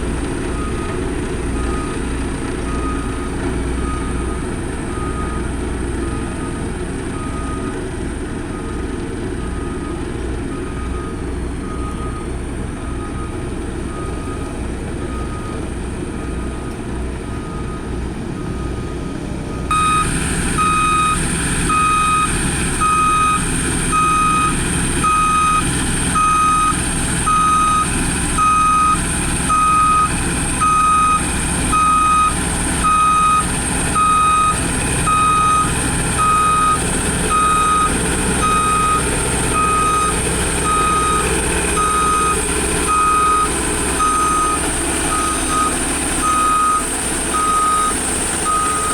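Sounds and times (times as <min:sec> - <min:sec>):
reversing alarm beeping: 0:00.0 - 0:16.7, 0:17.3 - 0:48.9
heavy machine engine running: 0:00.0 - 0:48.9.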